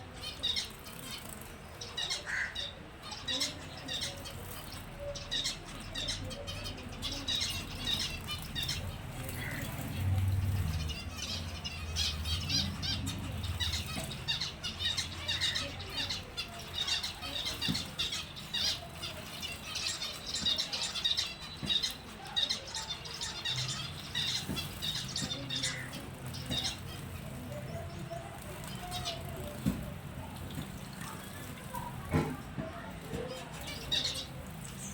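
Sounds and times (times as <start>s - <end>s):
finches chirping: 0.2s - 34.9s.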